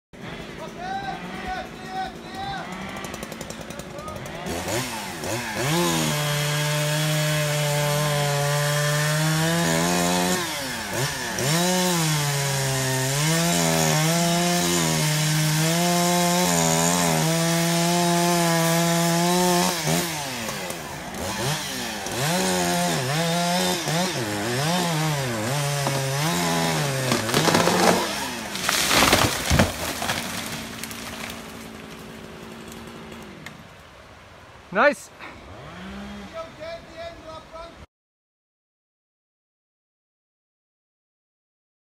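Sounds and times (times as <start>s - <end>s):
chainsaw cutting wood: 0.2s - 33.7s, 35.4s - 36.4s.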